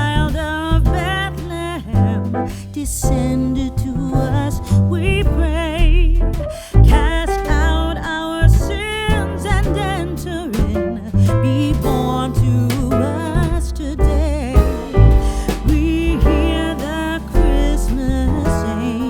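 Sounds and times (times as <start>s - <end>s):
bass line: 0.0s - 19.0s
person singing with vibrato: 0.0s - 19.0s.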